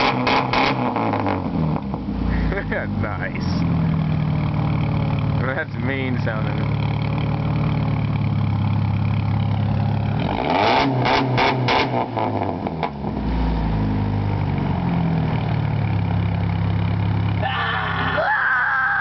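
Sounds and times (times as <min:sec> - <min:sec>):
car engine idling and revving: 0:00.0 - 0:18.2.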